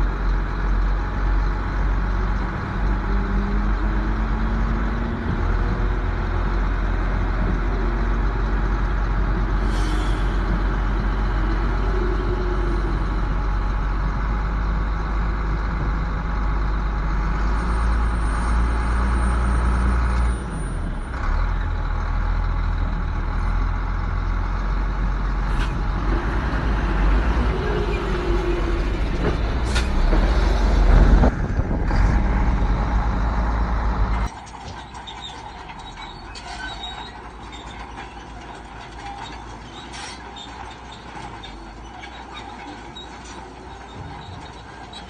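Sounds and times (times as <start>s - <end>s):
diesel machinery rumbling: 0.0s - 45.0s.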